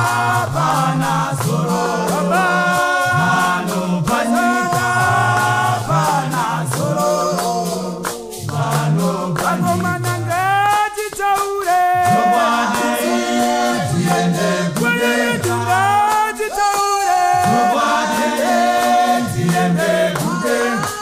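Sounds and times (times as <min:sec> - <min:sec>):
men's choir singing unaccompanied: 0:00.0 - 0:21.0.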